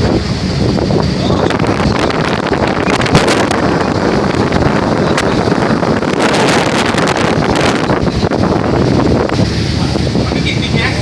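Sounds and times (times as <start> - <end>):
boat engine: 0.0 - 11.0
water noise: 0.0 - 11.0
wind buffeting microphone: 0.0 - 11.0.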